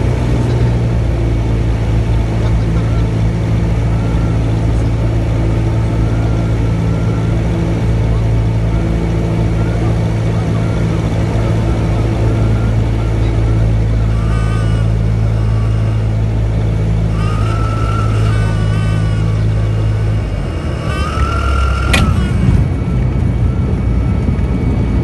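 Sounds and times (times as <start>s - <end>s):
stall warning horn wailing: 0.0s - 24.8s
plane engine droning in cabin: 0.0s - 25.0s.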